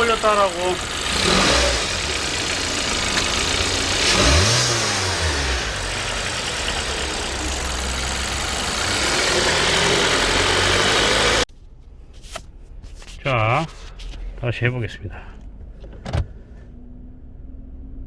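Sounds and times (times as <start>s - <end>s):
car engine idling and revving: 0.0s - 11.5s, 14.0s - 18.0s.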